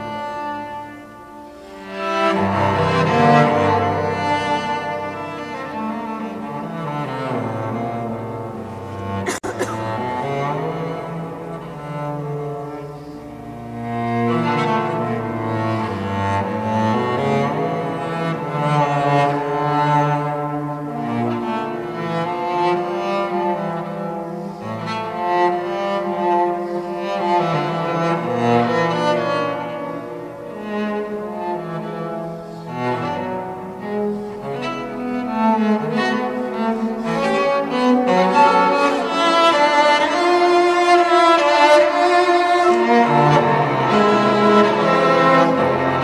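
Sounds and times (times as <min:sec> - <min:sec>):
bowed cello melody: 0:00.0 - 0:46.0.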